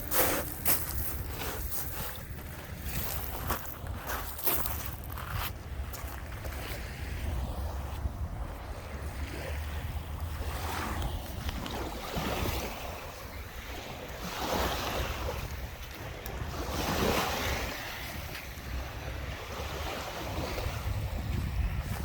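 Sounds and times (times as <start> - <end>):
waves washing onto beach: 0.0 - 22.0
wind rumbling on microphone: 0.0 - 22.0.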